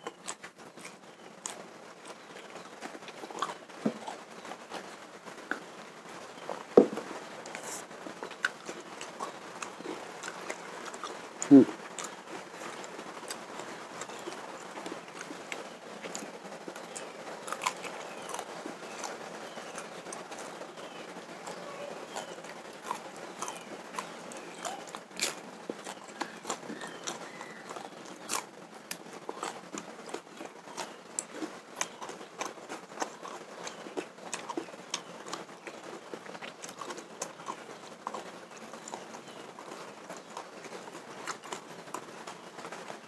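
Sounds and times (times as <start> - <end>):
mouth chewing wetly: 0.0 - 5.7, 6.3 - 42.9.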